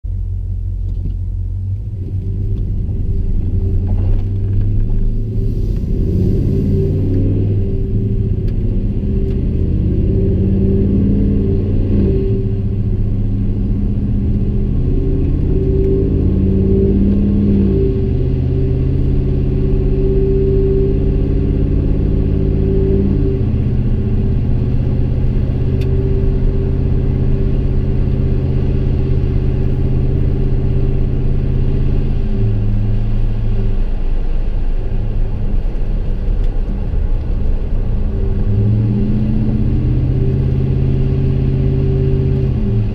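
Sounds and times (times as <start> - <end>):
truck engine exhaust while driving: 0.1 - 42.9.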